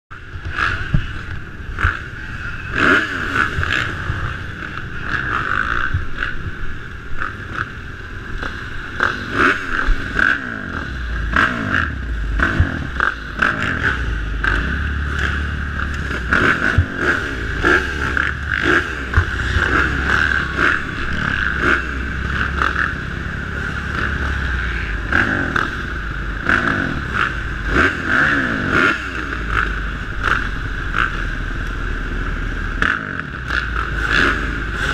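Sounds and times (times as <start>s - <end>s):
dirt bikes revving: 0.1s - 34.9s.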